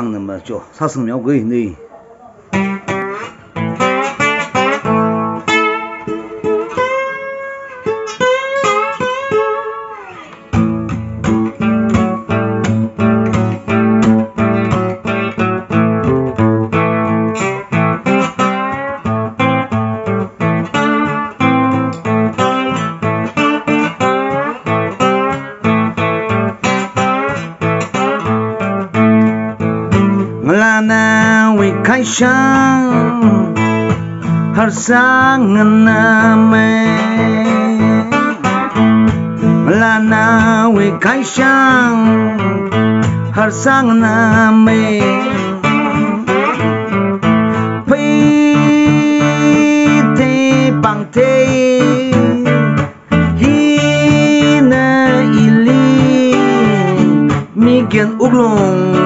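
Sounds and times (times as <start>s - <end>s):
fingerpicked acoustic guitar: 2.3s - 59.0s.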